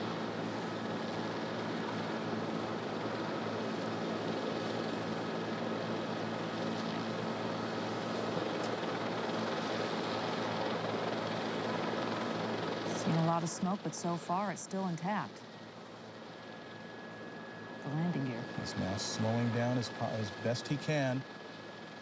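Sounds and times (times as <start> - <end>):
helicopter engine and rotors droning: 0.0 - 22.0.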